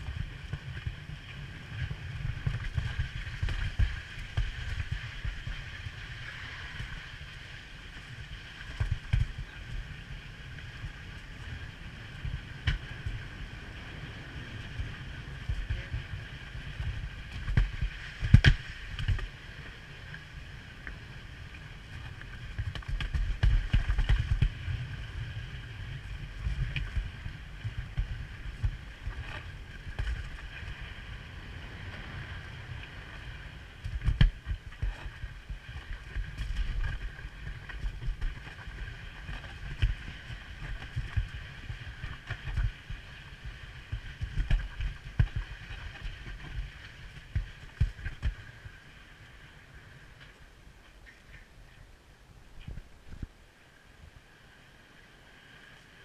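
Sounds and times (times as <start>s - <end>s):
wind buffeting microphone: 0.0s - 48.9s, 51.1s - 53.4s.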